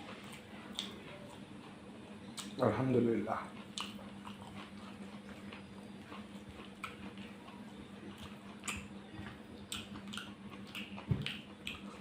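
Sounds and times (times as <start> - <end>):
chewing and lip-smacking: 0.0 - 2.6, 3.3 - 12.0.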